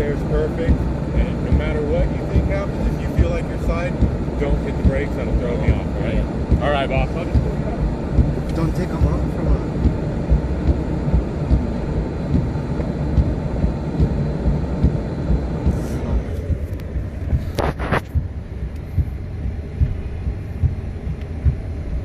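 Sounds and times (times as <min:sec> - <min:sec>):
low thumps: 0:00.0 - 0:22.0
vehicle and tyres rumbling in snow: 0:00.0 - 0:22.0.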